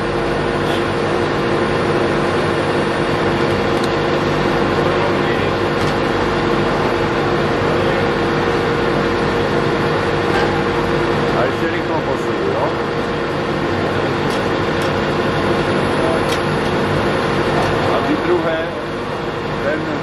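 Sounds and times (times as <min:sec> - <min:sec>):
gear drive whine: 0:00.0 - 0:20.0
lathe mechanical hum: 0:00.0 - 0:20.0.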